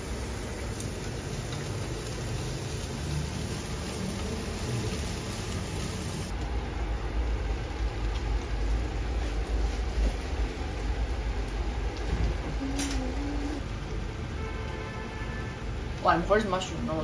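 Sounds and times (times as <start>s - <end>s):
frying pan hissing: 0.0s - 13.8s.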